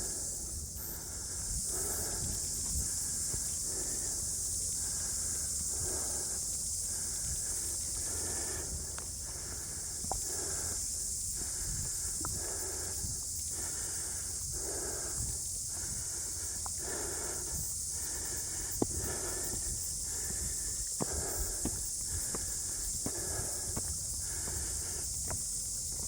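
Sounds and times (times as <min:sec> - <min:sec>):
heavy breathing: 0:00.0 - 0:26.0
high-pitched hiss: 0:00.0 - 0:26.0.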